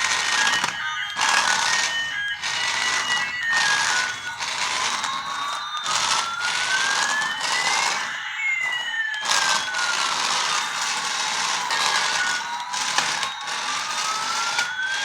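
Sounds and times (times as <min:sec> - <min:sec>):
electronic siren-like tones: 0:00.0 - 0:15.0.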